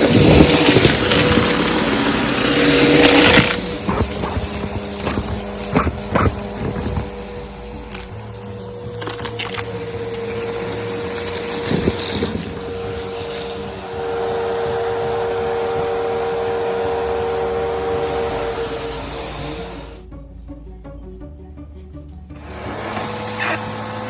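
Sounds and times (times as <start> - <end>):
vacuum cleaner running: 0.0 - 20.0, 22.4 - 24.0.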